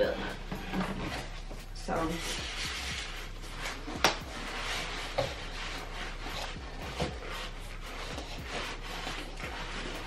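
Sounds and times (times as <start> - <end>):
styrofoam scraping cardboard: 0.0 - 10.0.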